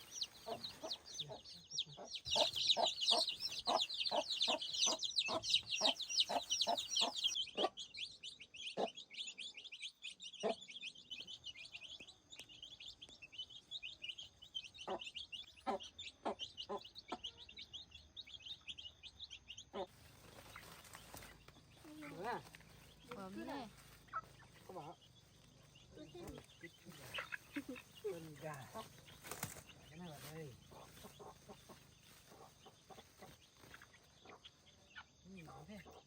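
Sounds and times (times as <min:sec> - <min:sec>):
chicken clucking: 0:00.0 - 0:36.0
chicks peeping: 0:00.0 - 0:36.0.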